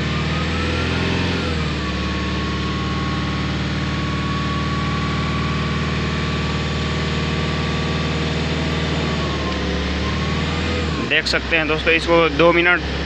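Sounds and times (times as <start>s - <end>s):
diesel engine running at raised revs: 0.0s - 13.0s.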